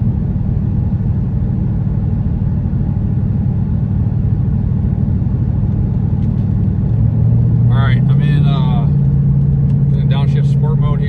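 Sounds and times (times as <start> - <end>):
car engine drone: 0.0 - 11.0
road noise: 0.0 - 11.0.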